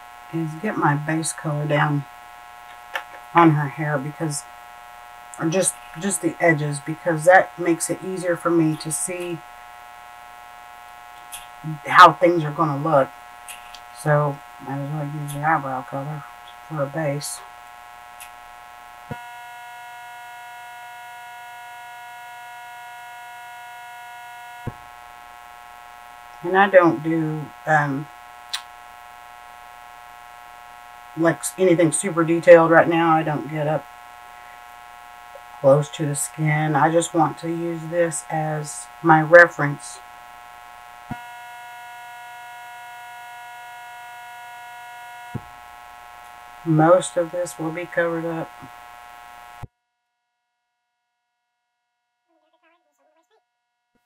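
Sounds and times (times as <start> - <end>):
electrical hum with whining tones: 0.0 - 49.7.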